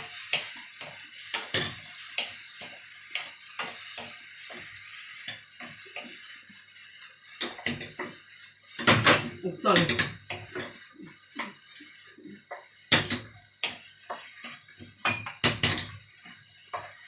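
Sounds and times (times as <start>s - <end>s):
food sizzling hiss: 0.0s - 17.0s.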